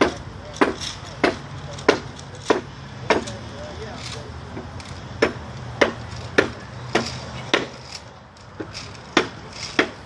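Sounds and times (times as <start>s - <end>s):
hand tool chopping into wood: 0.0s - 3.4s, 4.6s - 10.0s.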